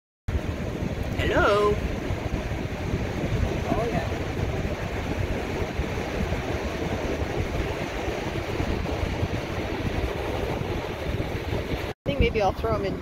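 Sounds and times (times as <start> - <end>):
ocean surf: 0.3 - 11.9
wind rumbling on microphone: 0.3 - 13.0.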